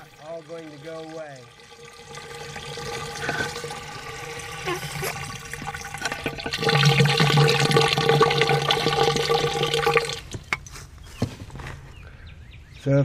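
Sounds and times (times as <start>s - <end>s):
water pouring into drain pipe: 0.0s - 10.4s.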